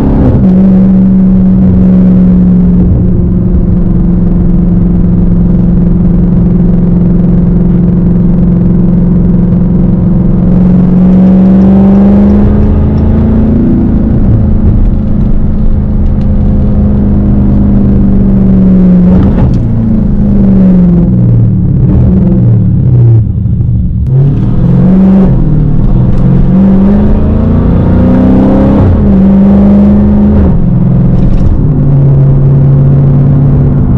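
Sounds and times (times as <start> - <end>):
loud car engine revving: 0.0 - 33.9.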